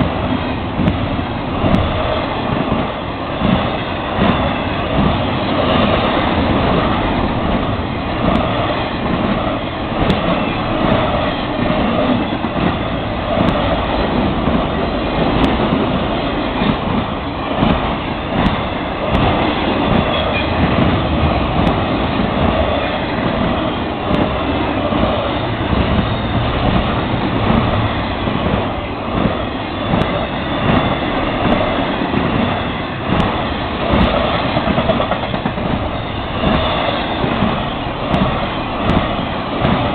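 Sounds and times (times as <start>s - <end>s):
steel wheels on rail: 0.0s - 39.9s.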